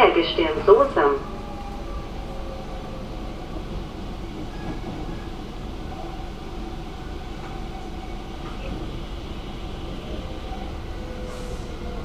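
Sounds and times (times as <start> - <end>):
metro train rumbling: 0.0 - 12.0.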